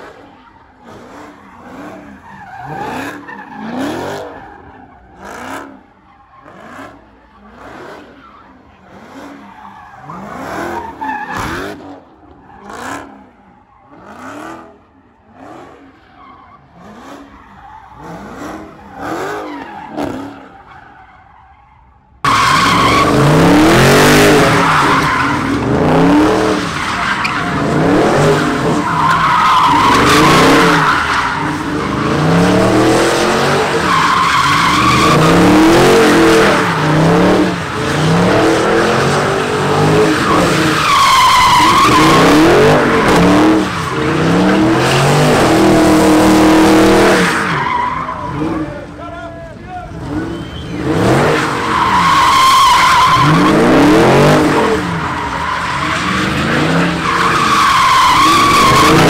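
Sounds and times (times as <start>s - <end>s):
car engine revving: 0.0s - 21.1s, 22.2s - 49.0s, 49.8s - 59.0s
tyres screeching on pavement: 0.0s - 59.0s.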